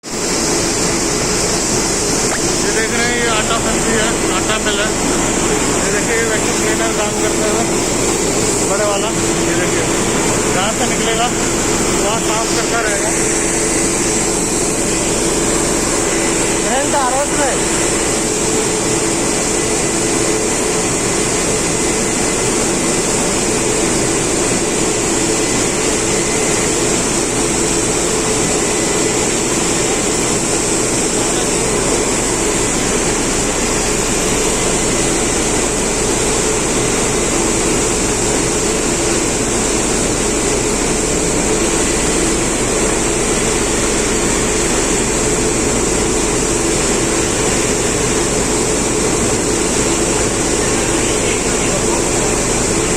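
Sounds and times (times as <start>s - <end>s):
mill machine hum: 0.0s - 52.9s
vacuum rushing air: 0.0s - 52.9s.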